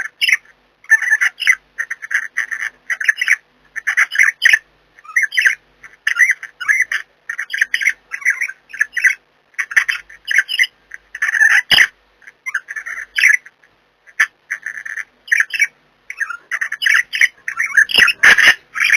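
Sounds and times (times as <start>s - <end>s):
budgerigars chattering and squawking: 0.0s - 18.9s.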